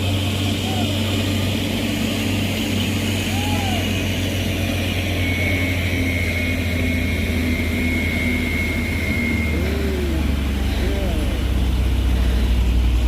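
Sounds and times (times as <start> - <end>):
diesel truck engine droning: 0.0 - 13.0
thin high whine: 0.0 - 13.0.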